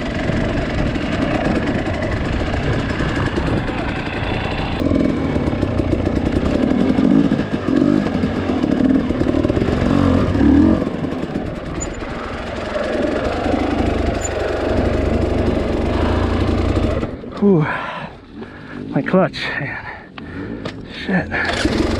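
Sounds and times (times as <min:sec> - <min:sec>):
dirt bike engine revving: 0:00.0 - 0:19.1, 0:20.2 - 0:21.9.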